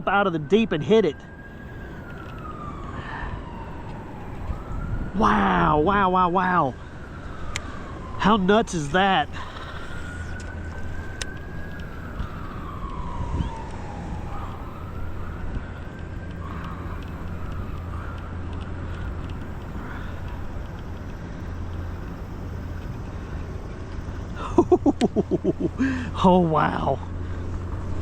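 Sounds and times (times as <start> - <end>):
faint siren wailing: 0.0 - 28.0
steady low rumble: 0.0 - 28.0.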